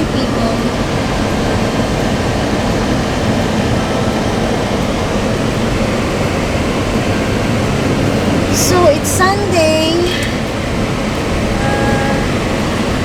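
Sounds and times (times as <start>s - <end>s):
road and wind noise in car cabin: 0.0s - 13.0s.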